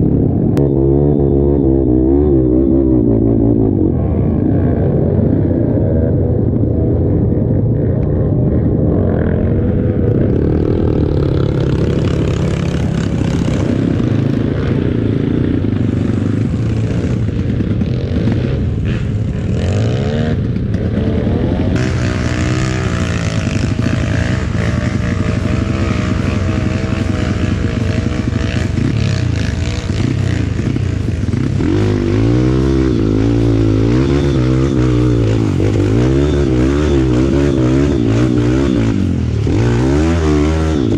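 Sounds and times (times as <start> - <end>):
trail bike engine revving: 0.0 - 40.9.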